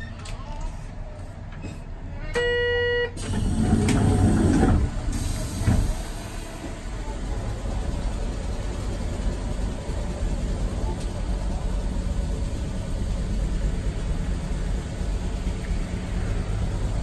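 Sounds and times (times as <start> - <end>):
tram doors closing clatter: 3.2 - 17.0
tram running rumble: 3.2 - 17.0.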